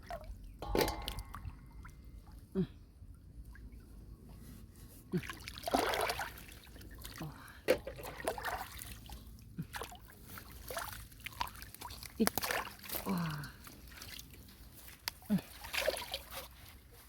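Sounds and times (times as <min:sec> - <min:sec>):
small water splashes and plops: 0:00.0 - 0:02.4, 0:05.1 - 0:16.7
pond water sloshing by hand: 0:00.0 - 0:17.0.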